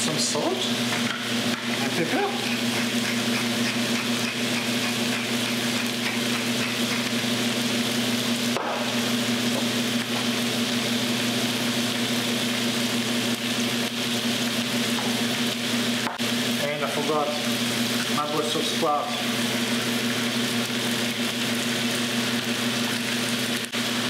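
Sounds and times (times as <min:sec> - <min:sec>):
vegetables sizzling in a skillet: 0:00.0 - 0:24.0.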